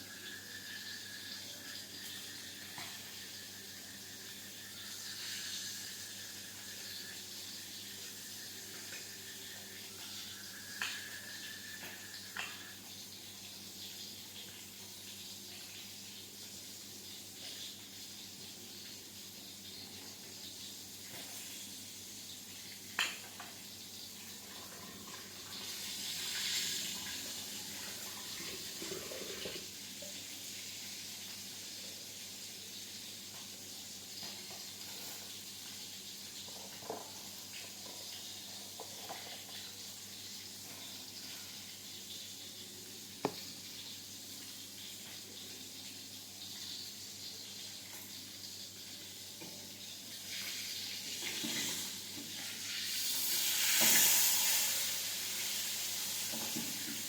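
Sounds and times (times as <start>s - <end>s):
faint steady hum: 0.0s - 53.3s
water running from a tap: 0.0s - 57.0s.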